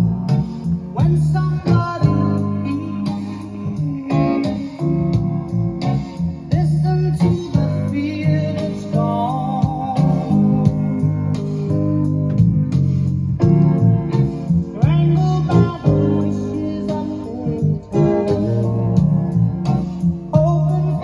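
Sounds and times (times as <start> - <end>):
bass line: 0.0 - 21.0
guitar music over loudspeakers: 0.0 - 21.0.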